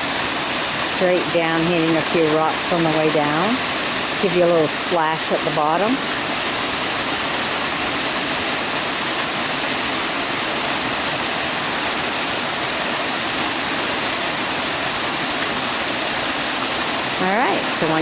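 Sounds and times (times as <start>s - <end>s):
waterfall splashing onto rocks: 0.0s - 18.0s.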